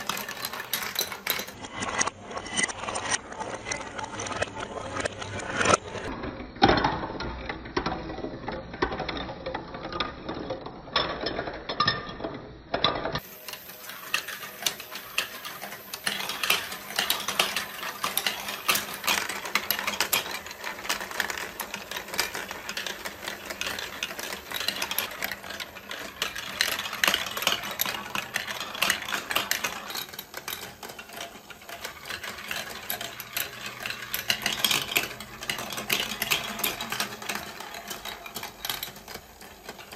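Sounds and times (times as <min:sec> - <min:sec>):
plastic balls clattering on track: 0:00.0 - 0:39.9.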